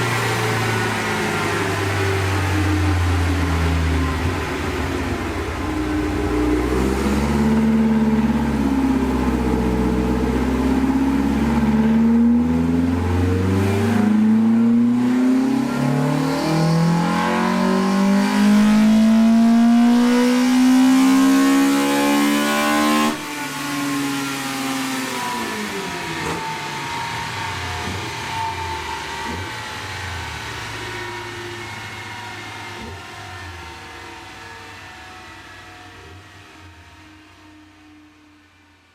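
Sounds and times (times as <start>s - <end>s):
car engine revving on a dyno: 0.0s - 38.9s.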